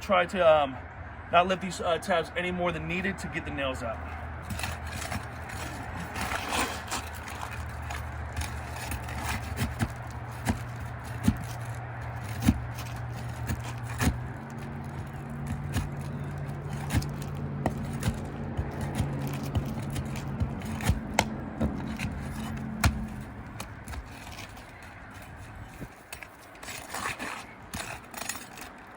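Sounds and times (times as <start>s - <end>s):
tool scraping and clicking on shingles: 3.9s - 28.9s.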